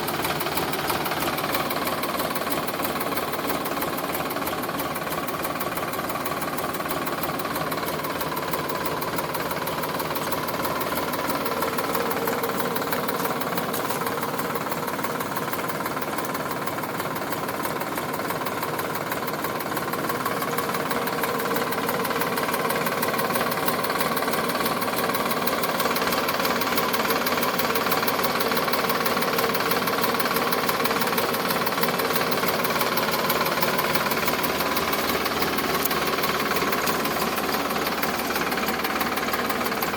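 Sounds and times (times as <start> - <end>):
tractor diesel engine clattering: 0.0 - 39.9.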